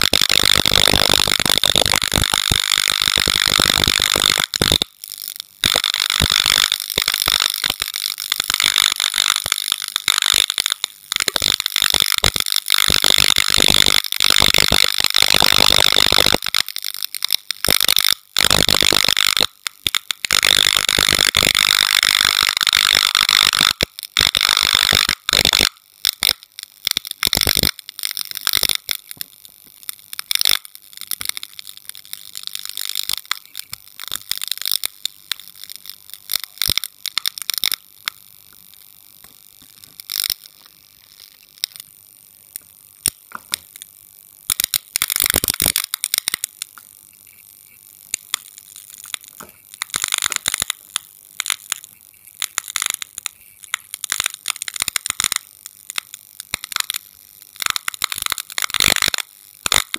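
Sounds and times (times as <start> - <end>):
flickering light electrical buzz: 0.0 - 59.9.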